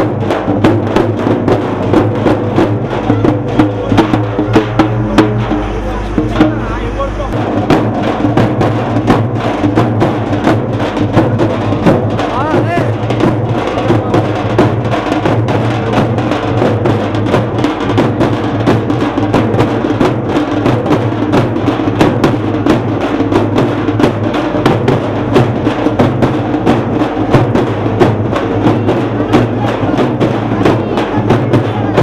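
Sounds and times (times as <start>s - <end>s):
barrel drum beating: 0.0s - 32.0s
frame drums beaten with sticks: 0.0s - 32.0s.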